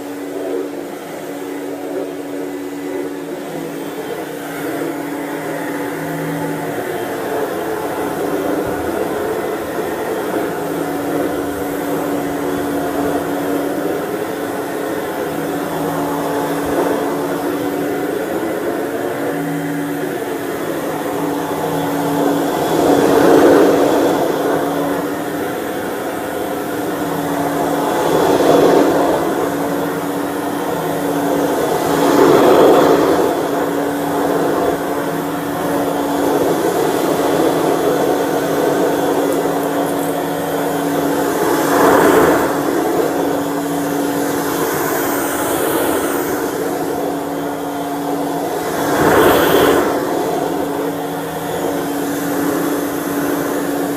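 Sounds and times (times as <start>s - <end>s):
stick vacuum motor hum: 0.0s - 53.9s.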